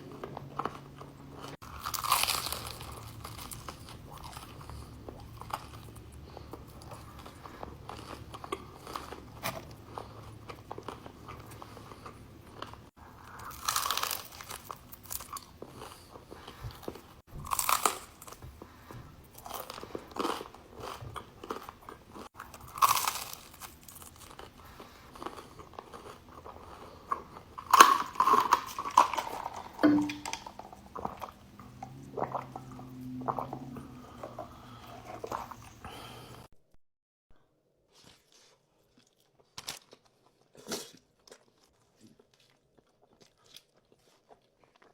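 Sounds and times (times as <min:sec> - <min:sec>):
crunchy food being bitten: 0:00.0 - 0:36.3, 0:38.9 - 0:44.9
chewing: 0:00.0 - 0:36.5, 0:37.9 - 0:44.9.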